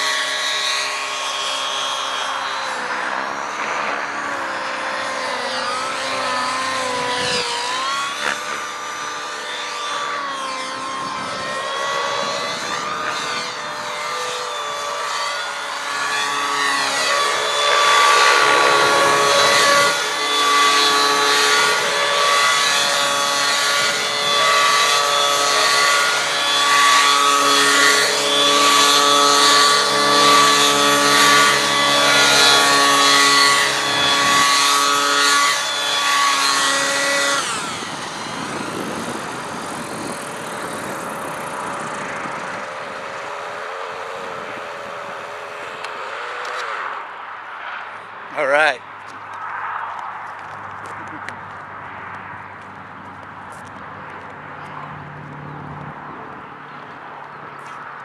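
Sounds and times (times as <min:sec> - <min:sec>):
model helicopter engine and rotor whine: 0:00.0 - 0:58.0.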